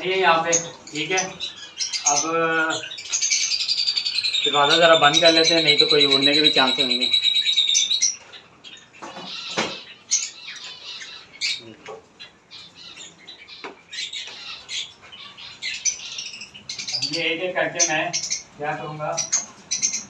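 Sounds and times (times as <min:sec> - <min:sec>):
lovebirds chirping and squawking: 0:00.0 - 0:20.0.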